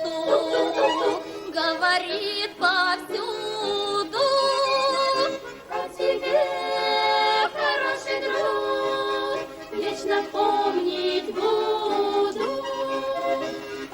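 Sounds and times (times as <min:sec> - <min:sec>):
musical accompaniment: 0:00.0 - 0:13.9
voices singing in harmony: 0:00.0 - 0:13.9.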